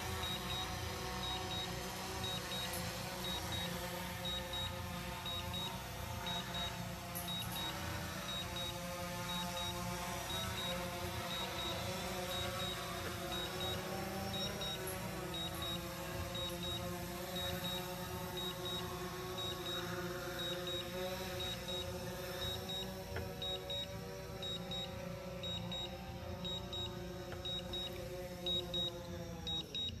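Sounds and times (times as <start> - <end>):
drone propellers humming: 0.0 - 30.0
high double beep: 0.2 - 8.7, 9.3 - 13.8, 16.4 - 28.9, 29.5 - 30.0.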